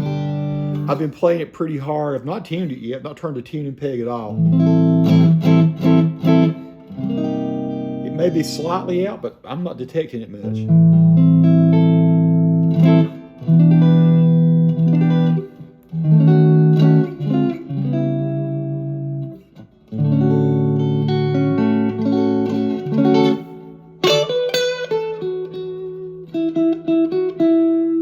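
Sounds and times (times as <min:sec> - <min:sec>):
electric guitar chords and notes: 0:00.0 - 0:02.7, 0:04.0 - 0:28.0.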